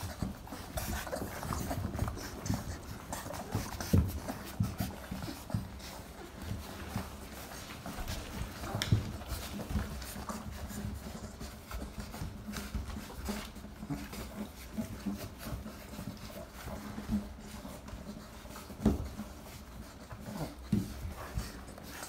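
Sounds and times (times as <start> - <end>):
puppies suckling: 0.0 - 22.0
shuffling: 0.0 - 22.0.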